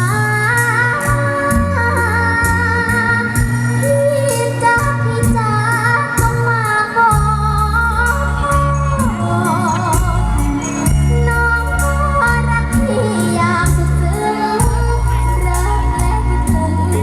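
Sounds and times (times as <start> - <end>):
backing track with drums: 0.0 - 17.0
girl singing: 0.0 - 17.0.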